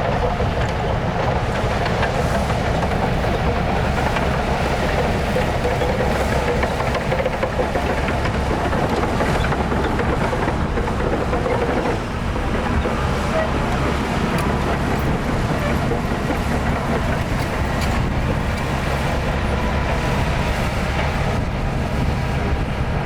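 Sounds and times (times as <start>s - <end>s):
diesel machinery engine drone: 0.0s - 23.0s.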